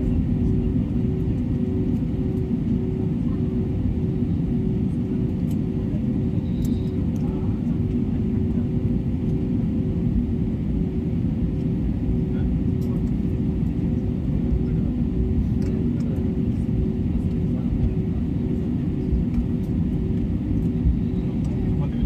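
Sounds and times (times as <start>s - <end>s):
jet engine low rumble: 0.0s - 22.0s.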